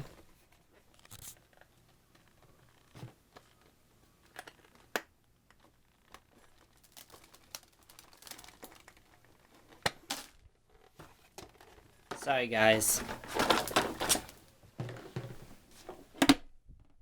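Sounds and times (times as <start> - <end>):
plastic clicks and rustling: 0.9 - 16.4.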